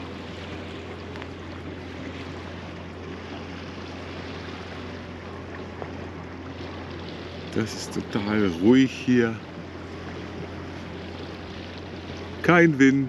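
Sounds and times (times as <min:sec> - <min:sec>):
boat engine hum: 0:00.0 - 0:13.0
water washing along hull: 0:00.0 - 0:13.0.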